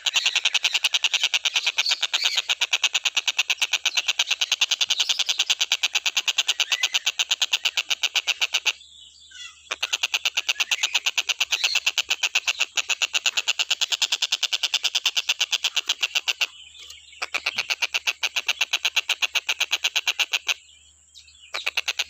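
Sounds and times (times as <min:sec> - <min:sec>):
kingfisher chattering call: 0:00.0 - 0:20.6, 0:21.5 - 0:22.0.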